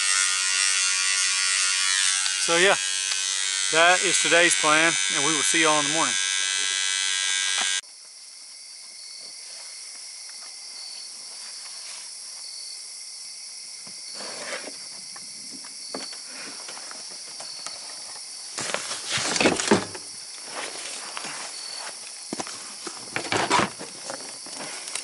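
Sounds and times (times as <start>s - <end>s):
night insects hissing: 0.0s - 25.0s.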